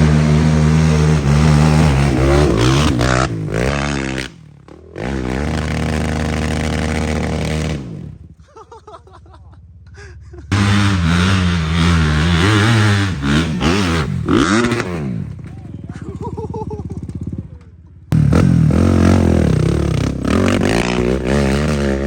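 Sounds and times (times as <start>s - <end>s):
off-road engine revving: 0.0s - 8.4s, 10.5s - 17.4s, 18.1s - 22.0s.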